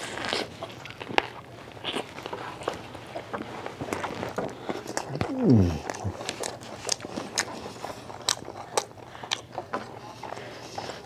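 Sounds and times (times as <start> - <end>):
crunchy chewing of taco: 0.0 - 11.0.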